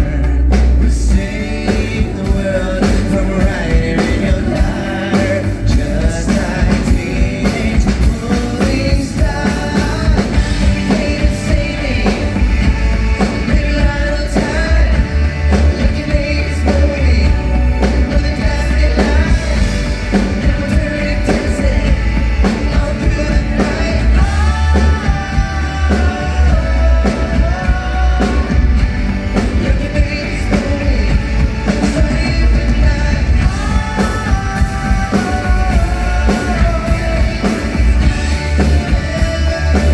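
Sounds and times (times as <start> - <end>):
live rock band: 0.0 - 39.9
person singing lead vocal: 0.0 - 39.9.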